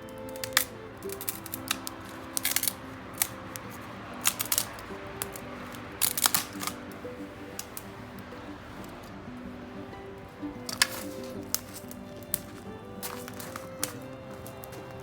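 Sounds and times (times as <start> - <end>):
burning wood crackling: 0.0 - 15.0
light background music: 0.0 - 15.0.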